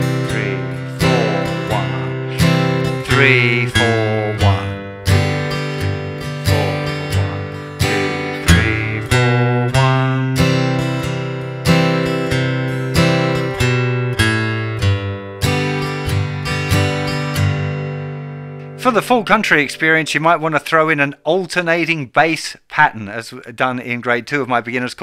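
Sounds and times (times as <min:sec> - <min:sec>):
acoustic guitar strumming and plucking: 0:00.0 - 0:21.9.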